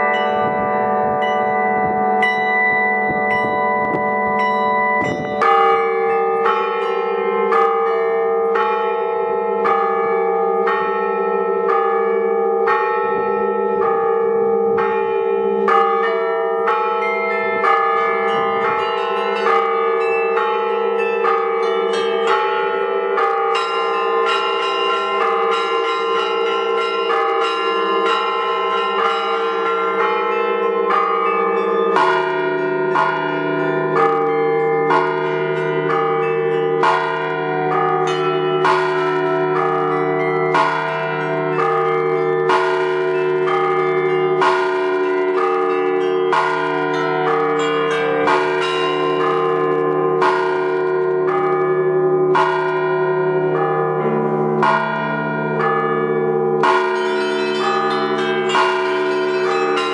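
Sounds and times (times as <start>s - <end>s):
deep bell strokes: 0.0s - 59.9s
sustained large bells: 0.0s - 59.9s.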